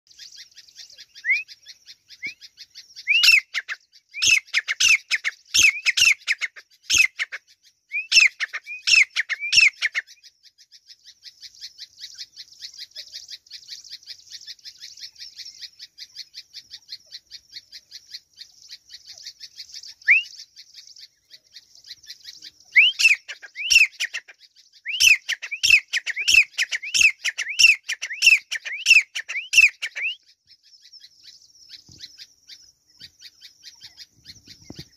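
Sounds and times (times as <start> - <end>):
francolin shrill rising calls: 0.1 - 10.3, 11.2 - 34.9.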